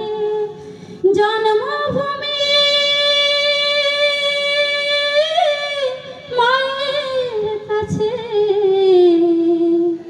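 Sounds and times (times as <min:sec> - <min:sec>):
woman singing unaccompanied: 0:00.0 - 0:10.0.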